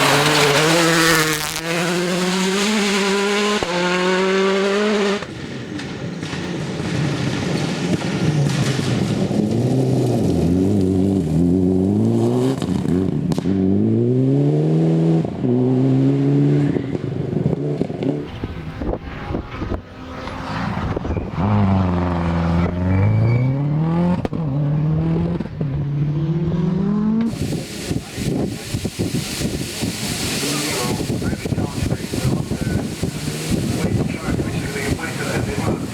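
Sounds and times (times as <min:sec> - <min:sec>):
rally car engine at full throttle: 0:00.0 - 0:35.9.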